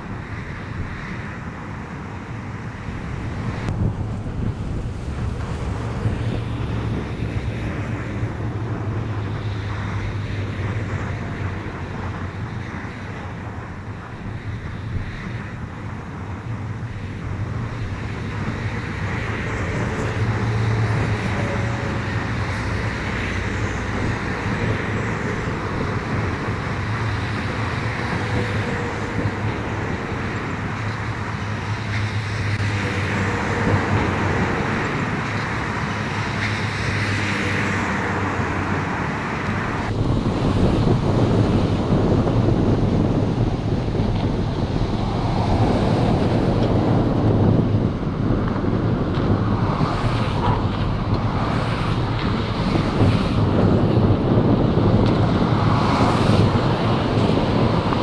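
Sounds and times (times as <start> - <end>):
motorway traffic: 0.0 - 58.0
wind on microphone: 0.0 - 58.0.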